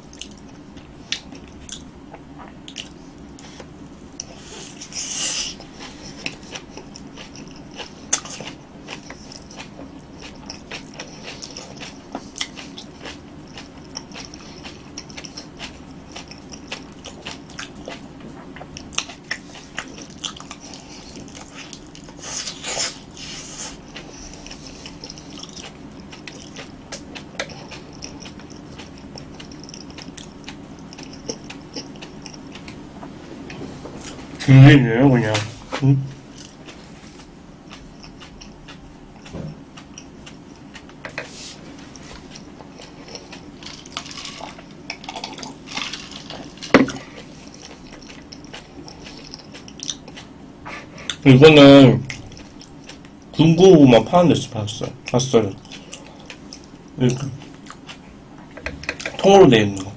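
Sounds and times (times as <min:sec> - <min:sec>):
person chewing food: 0:00.0 - 0:34.4, 0:35.5 - 0:51.3, 0:51.9 - 0:53.9, 0:54.8 - 0:59.9.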